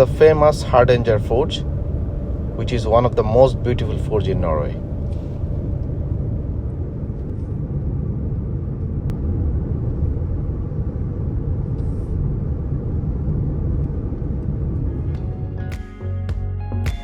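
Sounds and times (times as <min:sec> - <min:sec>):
tyre and engine rumble: 0:00.0 - 0:15.8.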